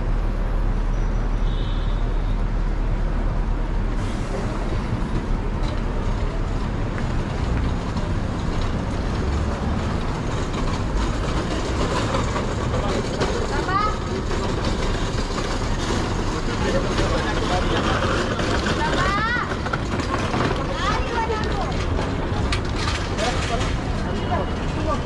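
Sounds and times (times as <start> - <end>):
road traffic: 0.0 - 25.0.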